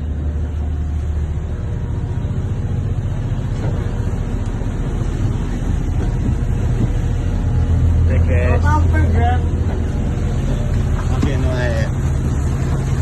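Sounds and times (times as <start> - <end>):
boat diesel engine rumbling: 0.0 - 13.0.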